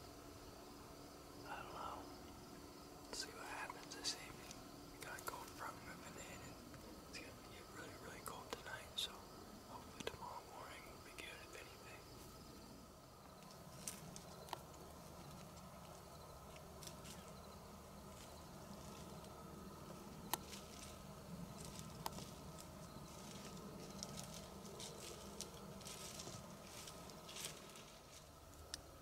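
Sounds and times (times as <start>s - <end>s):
faint rustling: 3.1s - 29.0s.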